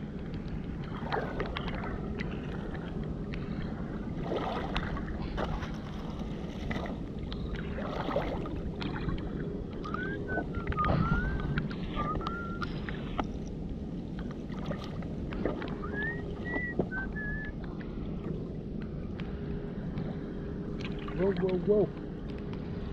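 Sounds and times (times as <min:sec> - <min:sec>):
low rumble: 0:00.0 - 0:22.9.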